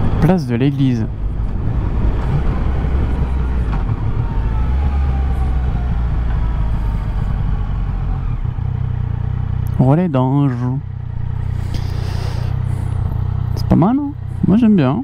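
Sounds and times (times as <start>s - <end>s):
road and wind noise: 0.0s - 15.0s
motorcycle engine running: 1.1s - 15.0s.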